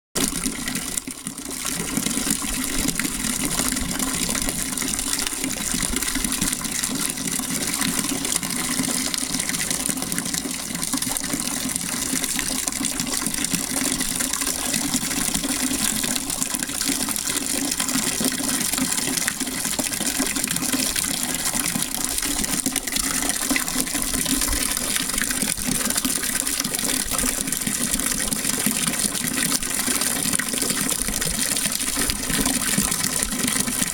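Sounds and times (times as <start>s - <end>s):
water pouring and trickling: 0.2s - 33.9s.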